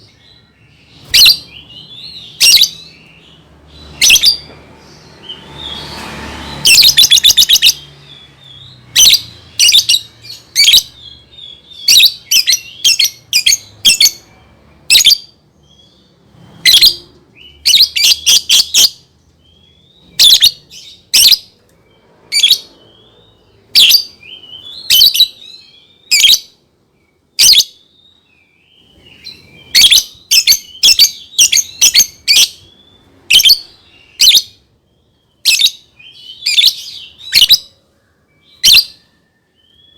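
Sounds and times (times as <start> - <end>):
lovebird shrill chirps: 0.0 - 4.5, 5.2 - 14.3, 14.9 - 16.0, 16.6 - 19.0, 20.0 - 21.5, 22.3 - 26.6, 27.4 - 34.6, 35.4 - 37.7, 38.4 - 39.9
soft twittering chatter: 0.0 - 39.9.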